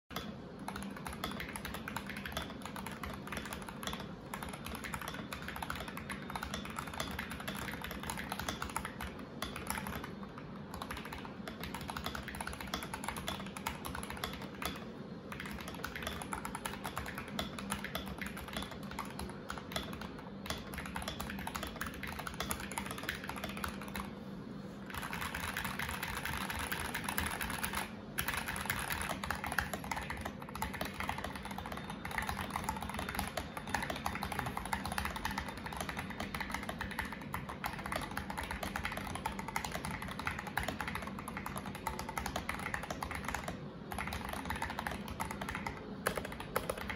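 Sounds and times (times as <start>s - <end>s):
mechanical keyboard typing: 0.1s - 24.2s, 24.9s - 46.9s.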